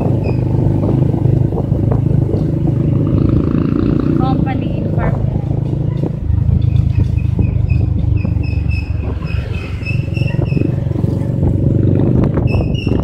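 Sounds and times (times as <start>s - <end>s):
motorcycle engine: 0.0s - 13.0s
wind rumble on microphone: 0.0s - 13.0s.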